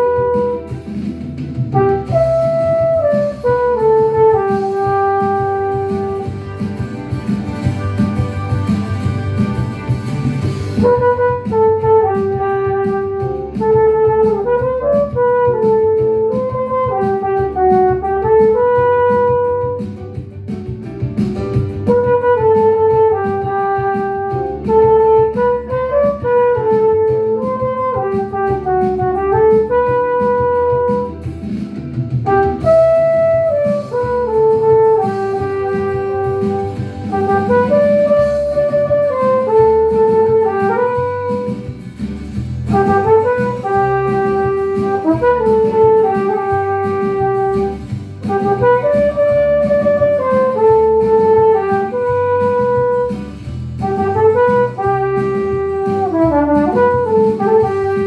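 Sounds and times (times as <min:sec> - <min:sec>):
flugelhorn playing a melody: 0:00.0 - 0:00.9, 0:01.7 - 0:20.0, 0:21.8 - 0:31.3, 0:32.3 - 0:41.8, 0:42.7 - 0:58.0
recorded backing track: 0:00.0 - 0:58.0.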